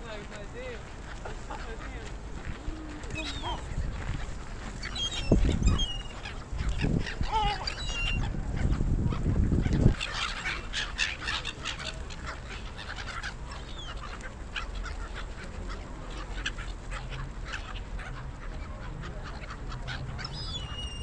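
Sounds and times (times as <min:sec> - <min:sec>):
gulls calling: 0:00.7 - 0:21.0.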